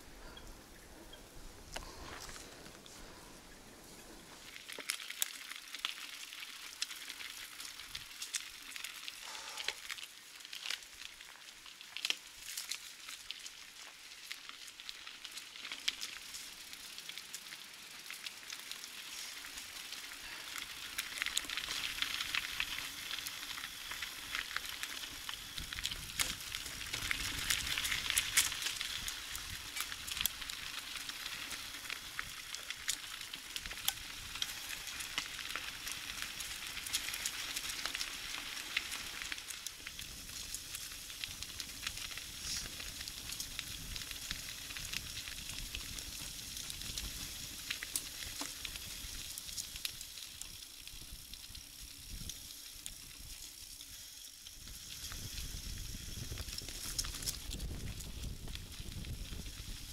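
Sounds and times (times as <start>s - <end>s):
bike tyres rolling on gravel: 0.0s - 59.9s.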